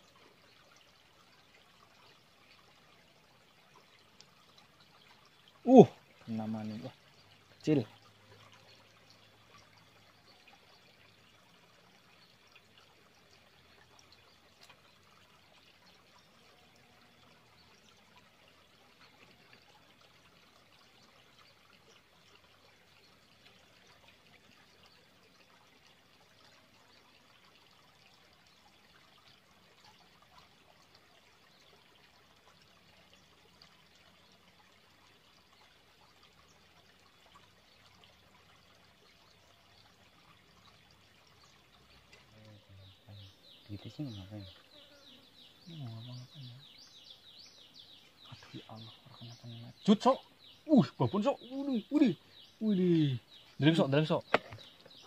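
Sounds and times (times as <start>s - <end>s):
water trickling in a ditch: 0.0s - 55.0s.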